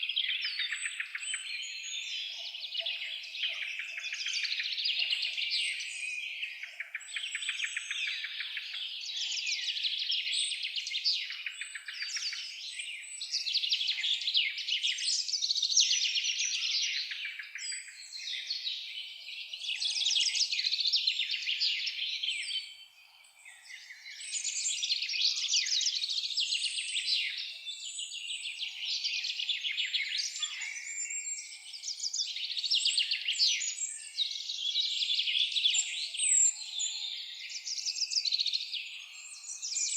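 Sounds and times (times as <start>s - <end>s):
birds singing in chorus: 0.0s - 39.9s.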